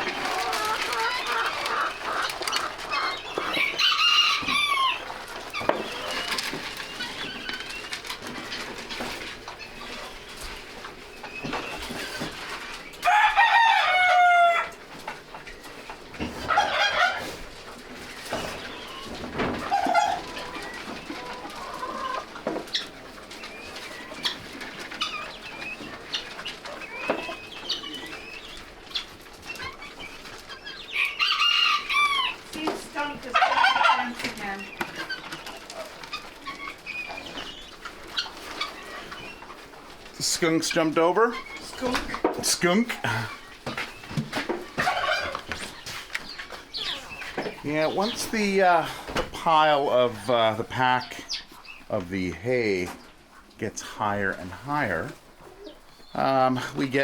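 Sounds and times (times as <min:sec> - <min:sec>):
poultry clucking: 0:00.0 - 0:57.0.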